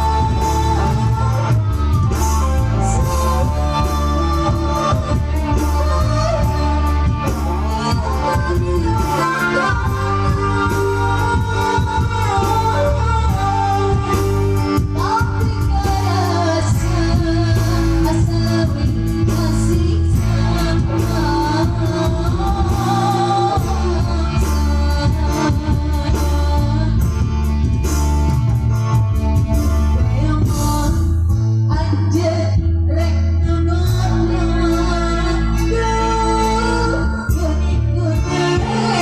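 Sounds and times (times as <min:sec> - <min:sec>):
bass line: 0:00.0 - 0:39.0
percussion: 0:00.0 - 0:39.0
song with sung vocals: 0:00.0 - 0:39.0.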